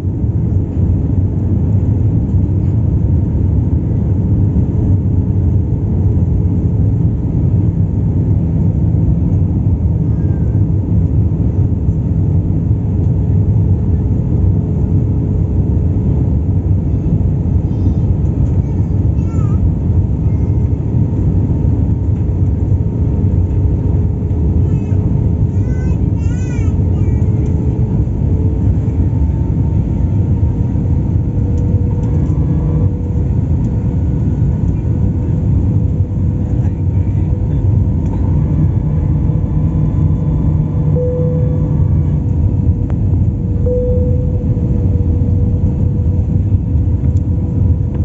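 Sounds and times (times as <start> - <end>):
airplane cabin engine rumble: 0.0 - 48.0
faint steady hum: 0.0 - 48.0.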